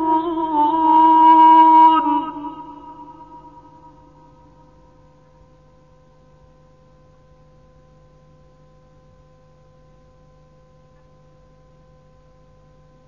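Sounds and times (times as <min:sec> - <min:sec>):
faint hum over tape hiss: 0:00.0 - 0:13.0.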